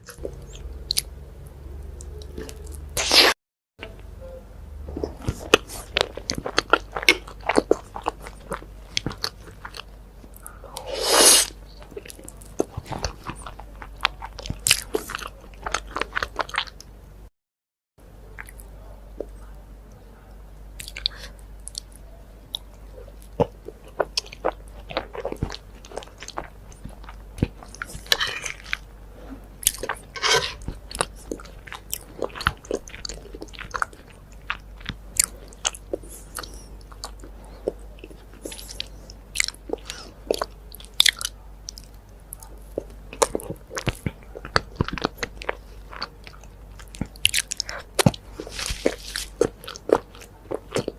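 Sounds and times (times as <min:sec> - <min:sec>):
person chewing crunchy food: 0:00.0 - 0:01.1, 0:04.9 - 0:16.9, 0:20.8 - 0:50.9.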